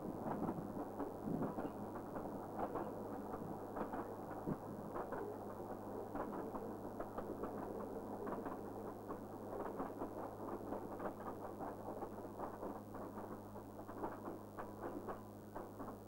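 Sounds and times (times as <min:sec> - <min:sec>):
steady low hum: 0:00.0 - 0:16.0
train wheels rattling on track: 0:00.0 - 0:16.0.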